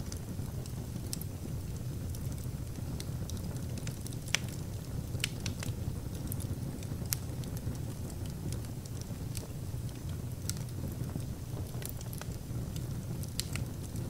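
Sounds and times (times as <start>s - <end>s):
fire crackles and pops: 0.0s - 14.0s
fire rumbling in fireplace: 0.0s - 14.0s.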